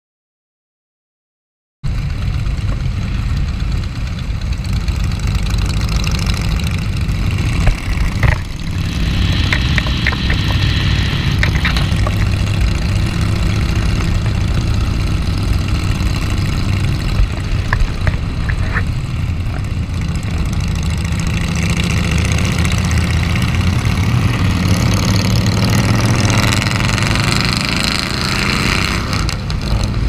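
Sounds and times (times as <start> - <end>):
motorcycle engine running: 1.9 - 30.0.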